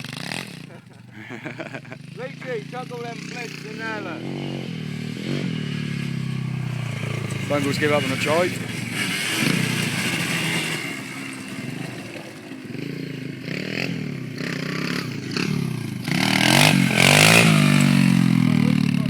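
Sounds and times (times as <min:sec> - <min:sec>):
pit bike engine revving: 0:00.0 - 0:19.0.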